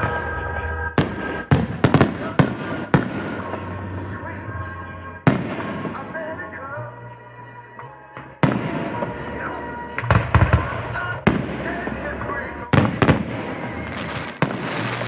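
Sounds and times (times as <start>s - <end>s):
fireworks exploding: 0.0s - 4.6s, 5.2s - 6.8s, 8.2s - 15.0s.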